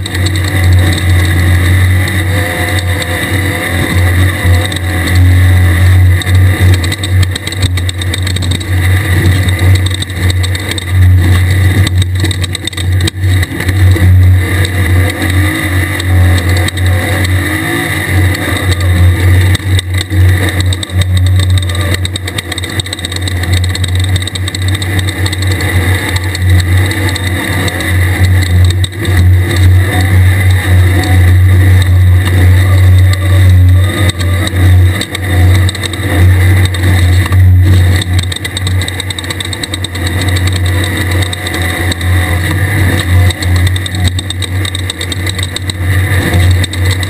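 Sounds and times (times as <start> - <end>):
knocks and rattles: 0.0 - 17.4, 18.2 - 47.0
engine revving hard: 0.0 - 47.0.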